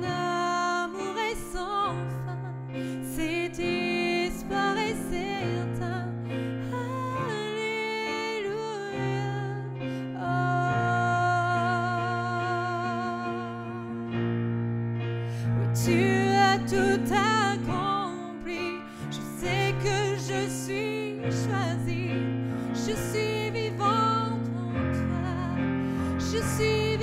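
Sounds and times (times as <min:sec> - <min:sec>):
woman singing with vibrato: 0:00.0 - 0:14.2, 0:15.6 - 0:27.0
piano held chords: 0:00.0 - 0:27.0.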